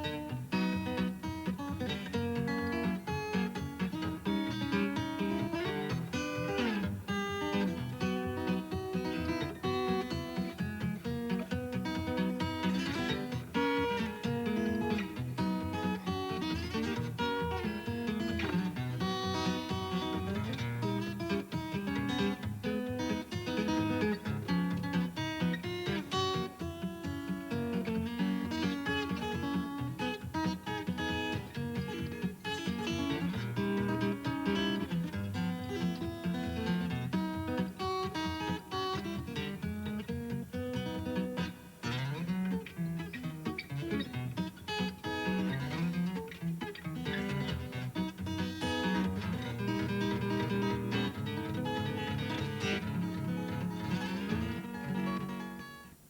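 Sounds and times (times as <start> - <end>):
solo fingerpicked guitar: 0.0 - 56.0.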